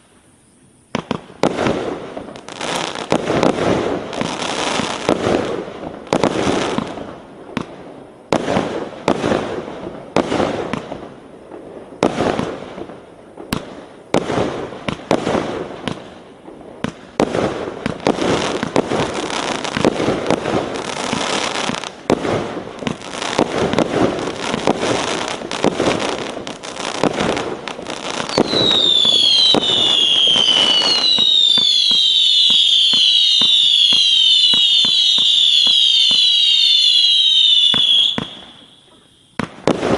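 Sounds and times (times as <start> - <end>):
whistling fireworks falling in pitch: 0.0 - 39.9
fireworks cake firing bursts: 0.9 - 39.9.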